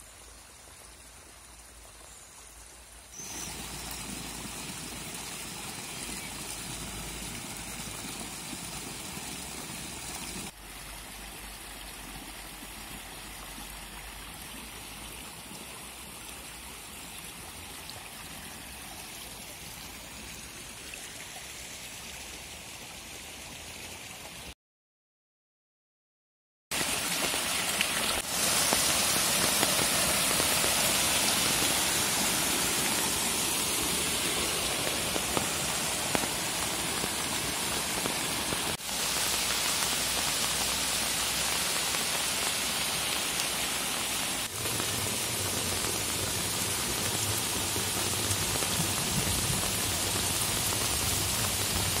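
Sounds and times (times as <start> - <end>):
rain on foliage: 0.0 - 21.8, 26.7 - 52.0
stream rushing: 2.8 - 23.0, 26.7 - 52.0.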